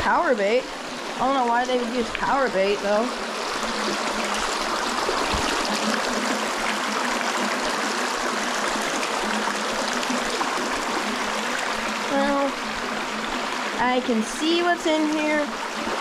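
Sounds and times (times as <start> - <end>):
stream babbling over rocks: 0.0 - 16.0.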